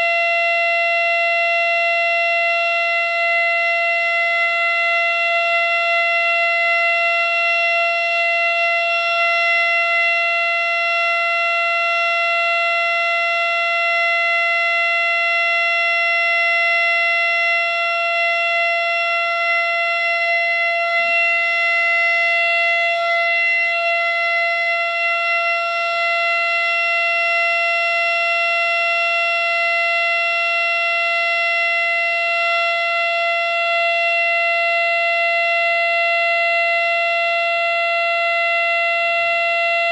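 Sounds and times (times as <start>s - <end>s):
miniature siren steady pitch: 0.0s - 39.9s.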